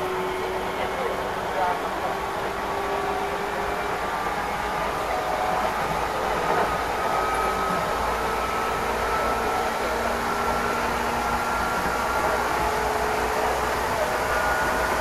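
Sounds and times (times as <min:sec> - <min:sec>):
rising train whine: 0:00.0 - 0:15.0
train rumble and rail noise: 0:00.0 - 0:15.0.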